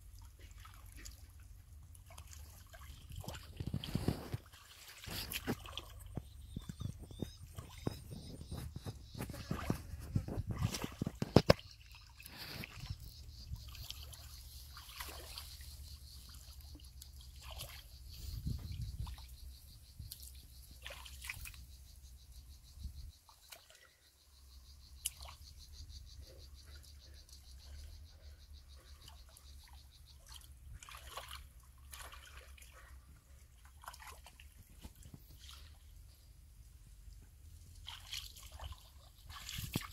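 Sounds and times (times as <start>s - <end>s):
splashes of shallow water: 0.0s - 19.4s, 20.0s - 21.7s, 23.2s - 24.0s, 24.9s - 25.8s, 28.7s - 36.1s, 37.7s - 39.9s.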